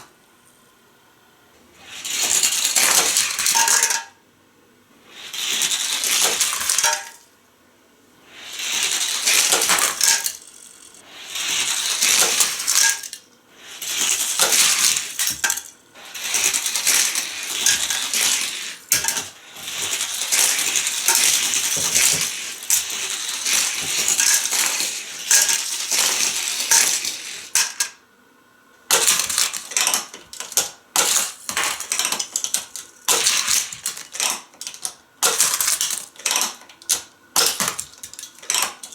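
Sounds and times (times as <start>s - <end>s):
toy car rolling on plastic track: 1.7s - 4.2s, 5.0s - 7.3s, 8.2s - 28.0s, 28.9s - 38.9s.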